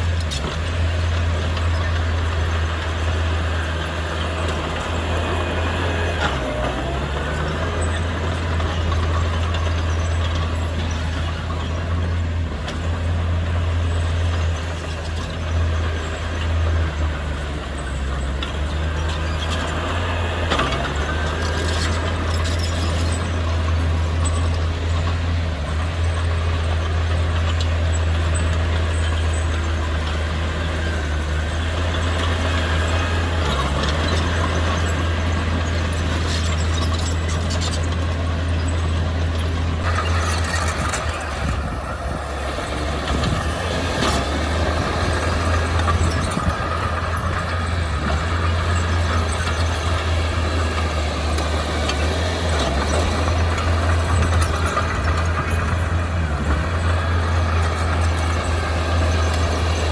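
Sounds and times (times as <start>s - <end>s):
heavy machine engine droning: 0.0s - 59.9s.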